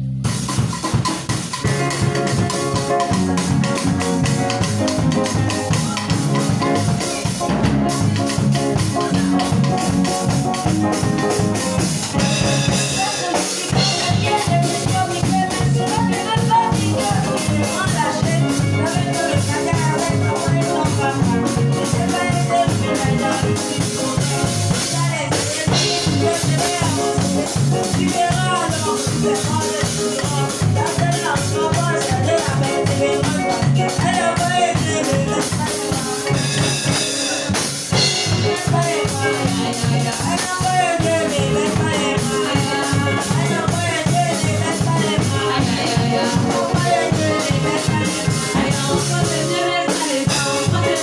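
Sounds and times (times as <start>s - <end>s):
drum kit beat: 0.0s - 51.0s
electronic keyboards: 0.4s - 51.0s.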